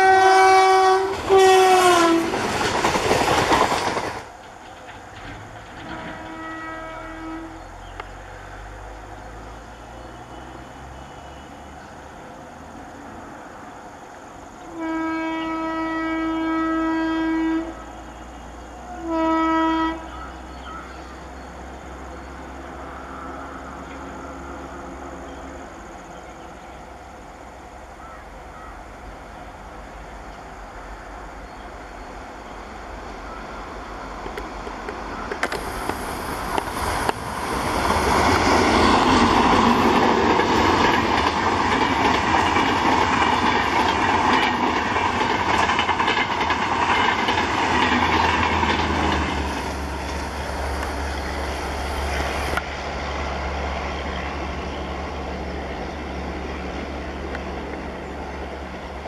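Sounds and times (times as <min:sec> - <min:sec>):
train passing at speed: 0:00.0 - 0:59.0
wheels rushing on rail: 0:00.0 - 0:59.0.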